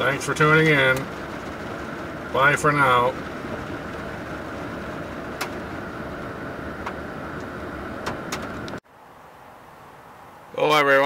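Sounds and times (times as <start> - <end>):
fan running: 0.0 - 10.8
rain hiss on vehicle: 0.0 - 11.0.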